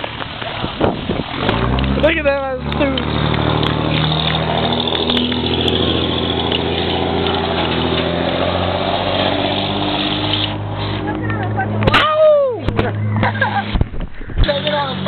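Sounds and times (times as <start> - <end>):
cars driving past: 0.0 - 15.0
vehicle engine running: 0.0 - 15.0.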